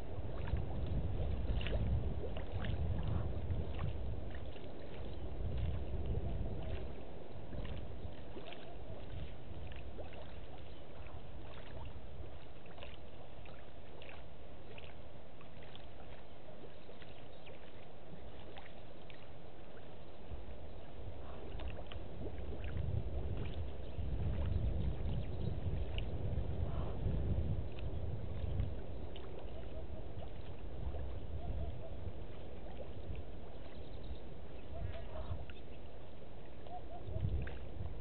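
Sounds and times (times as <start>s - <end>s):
wind rumbling on microphone: 0.0s - 38.0s.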